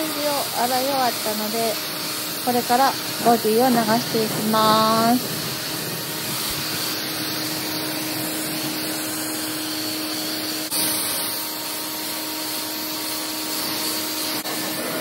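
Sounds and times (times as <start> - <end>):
spray gun hissing: 0.0 - 15.0.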